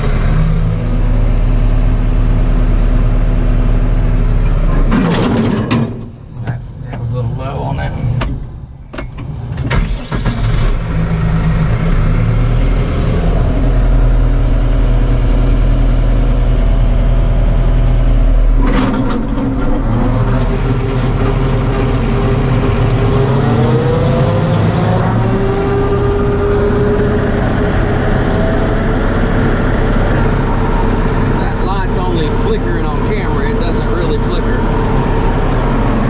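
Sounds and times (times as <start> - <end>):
tractor diesel engine running: 0.0 - 6.8, 8.4 - 36.0.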